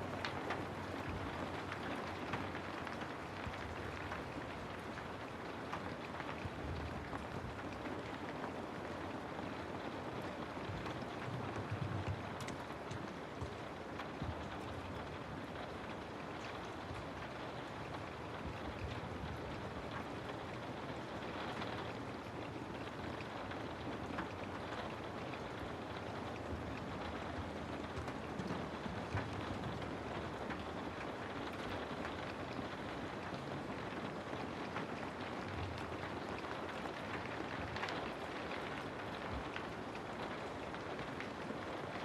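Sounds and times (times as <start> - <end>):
steady rainfall: 0.0 - 42.0.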